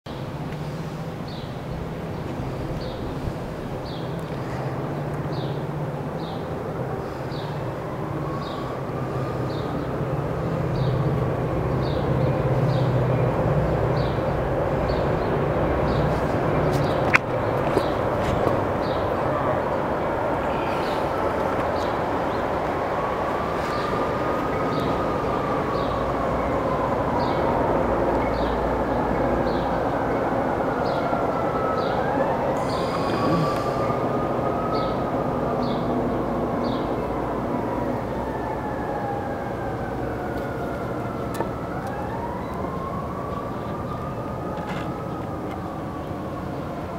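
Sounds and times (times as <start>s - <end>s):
airplane drone overhead: 0.1s - 46.9s.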